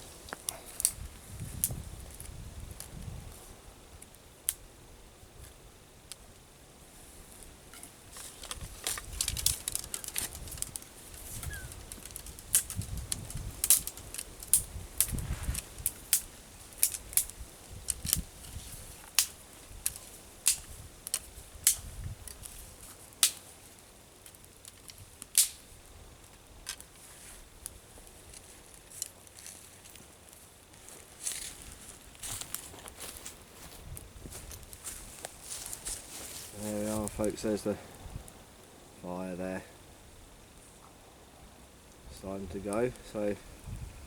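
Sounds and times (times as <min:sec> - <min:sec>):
campfire crackling and popping: 0:00.0 - 0:41.0, 0:41.7 - 0:44.0.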